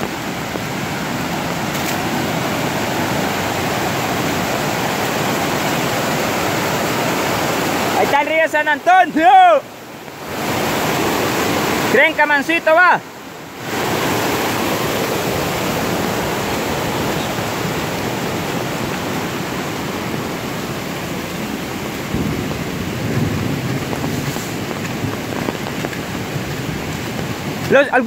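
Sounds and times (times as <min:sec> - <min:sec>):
heavy rain: 0:00.0 - 0:28.0
rushing floodwater: 0:00.0 - 0:28.0.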